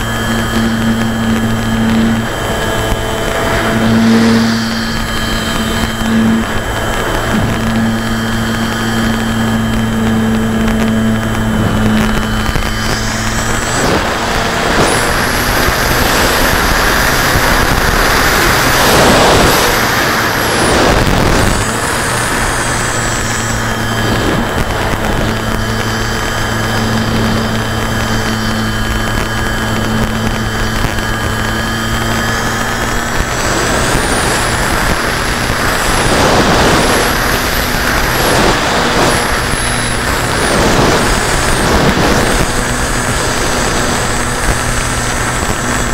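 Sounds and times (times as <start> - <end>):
model airplane motor drone: 0.0 - 45.9
rush of air: 0.0 - 45.9.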